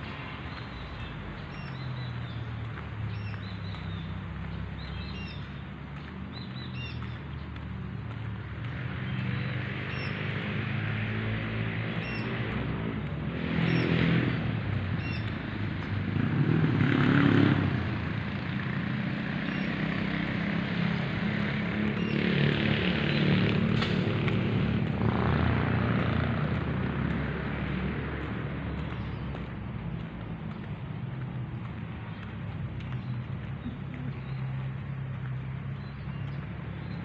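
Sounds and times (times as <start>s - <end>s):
motor vehicles passing: 0.0s - 37.0s
steady engine hum: 0.0s - 37.0s.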